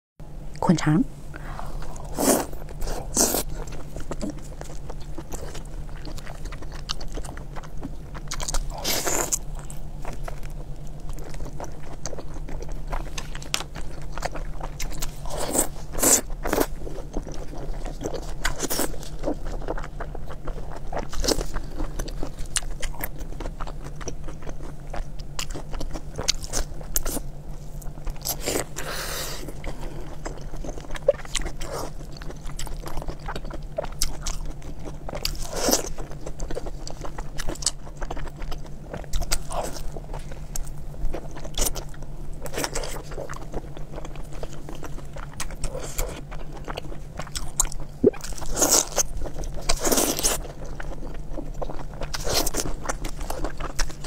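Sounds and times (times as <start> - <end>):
steady low hum: 0.2 - 54.0
chewing and biting: 1.8 - 54.0.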